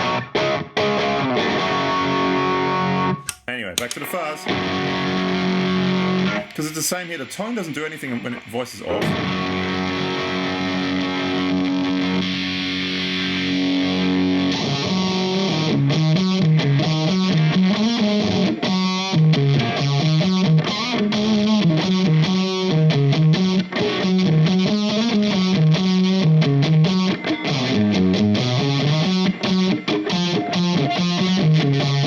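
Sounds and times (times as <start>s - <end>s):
fuzz electric guitar riff: 0.0s - 32.0s.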